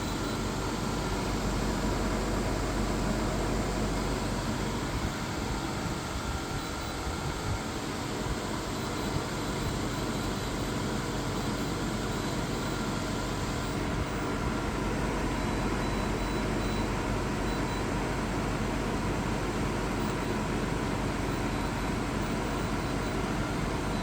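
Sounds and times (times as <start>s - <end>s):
faint high whine: 0.0s - 17.9s, 19.9s - 24.0s
air conditioner fan running: 0.0s - 24.0s.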